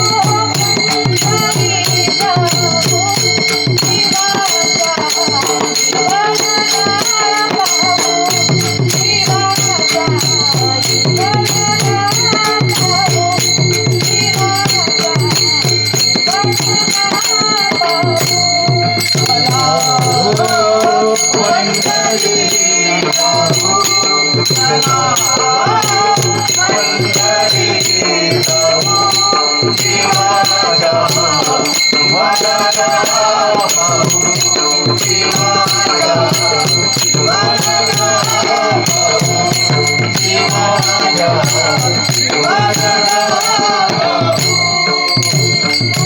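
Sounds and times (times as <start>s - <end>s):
small hand cymbals jingling: 0.0s - 46.0s.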